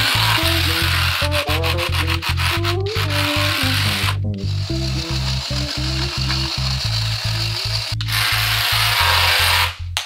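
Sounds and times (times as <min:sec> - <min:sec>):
music with pulsing bass: 0:00.0 - 0:10.0.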